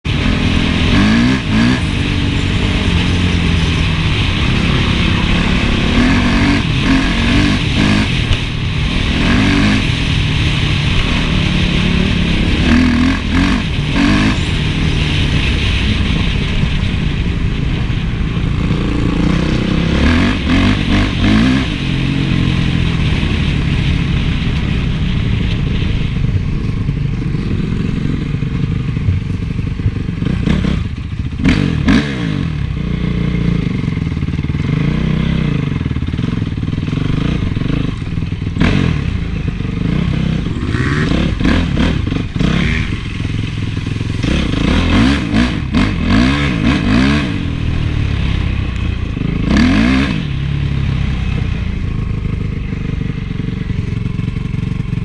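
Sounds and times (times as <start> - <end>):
motocross engine revving: 0.0 - 24.5, 27.1 - 55.0.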